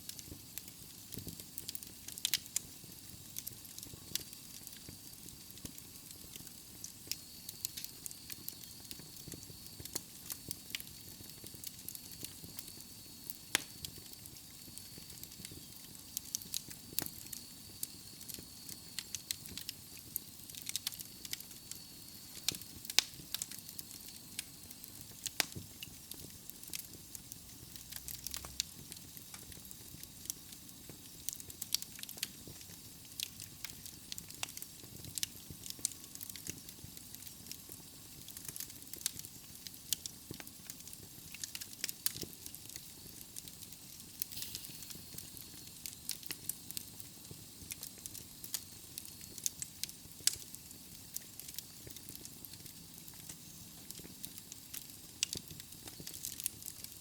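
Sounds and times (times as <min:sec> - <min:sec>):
logs burning with crackles: 0:00.0 - 0:57.0.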